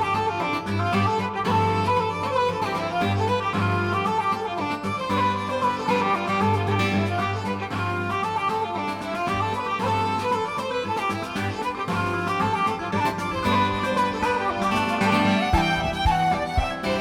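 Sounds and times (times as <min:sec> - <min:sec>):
fiddle melody: 0:00.0 - 0:17.0.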